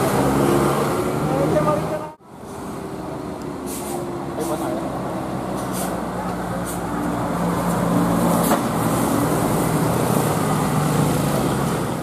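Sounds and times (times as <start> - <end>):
diesel bus driving past: 0.0 - 12.0.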